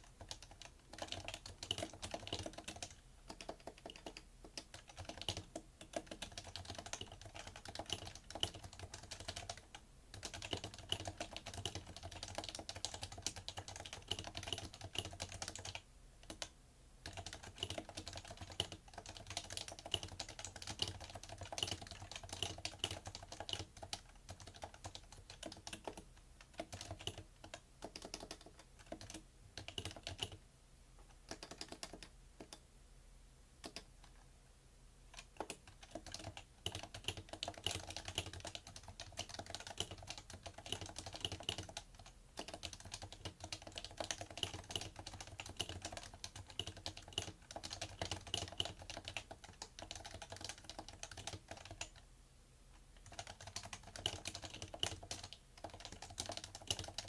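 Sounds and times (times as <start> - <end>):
fast keyboard typing: 0.0 - 30.4, 31.3 - 32.6, 35.1 - 52.0, 53.0 - 57.0.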